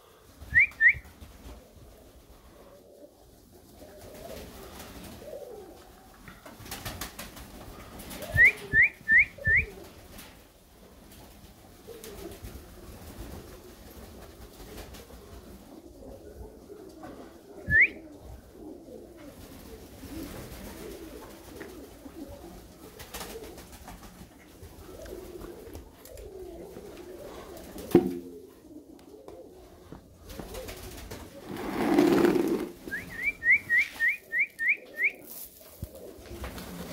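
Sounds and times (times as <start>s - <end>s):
pigeons cooing: 0.8s - 6.5s, 7.6s - 10.2s, 14.7s - 36.9s.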